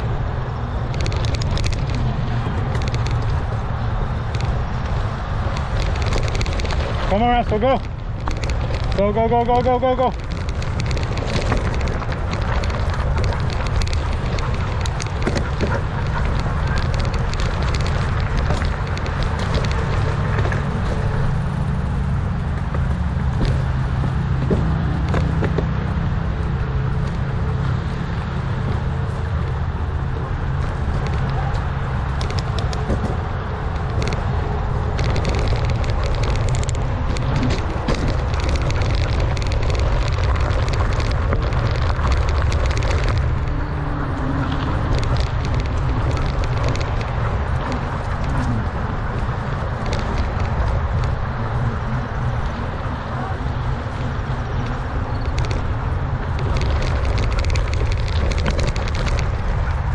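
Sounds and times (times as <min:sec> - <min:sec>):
bike clicks and rattles: 0:00.0 - 0:59.9
bike tyre noise: 0:00.0 - 0:59.9
wind rumble on microphone: 0:00.0 - 0:59.9.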